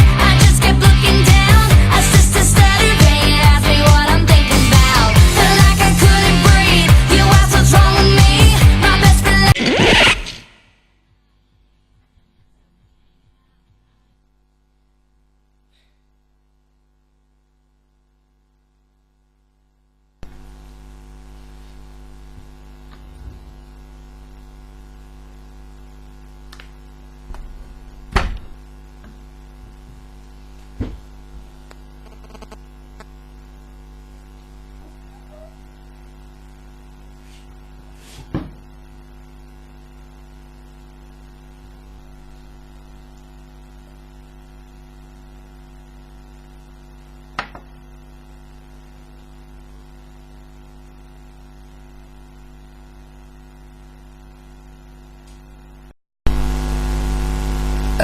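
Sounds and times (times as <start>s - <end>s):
electrical mains hum: 11.0s - 58.0s.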